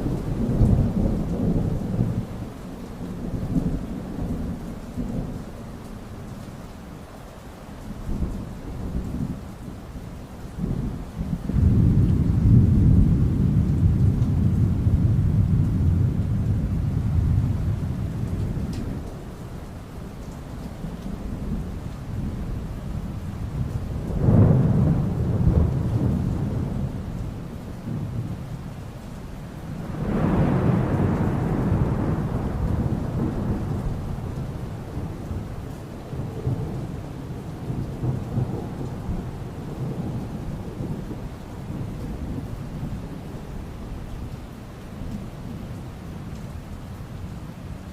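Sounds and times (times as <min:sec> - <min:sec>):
low rumble of thunder: 0:00.0 - 0:06.8, 0:07.9 - 0:47.9
steady rain: 0:00.0 - 0:47.9.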